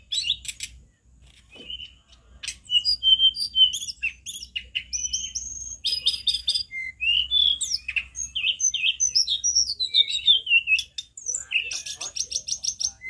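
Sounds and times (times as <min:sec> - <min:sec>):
bird singing high whistles: 0:00.0 - 0:00.8, 0:01.5 - 0:13.0.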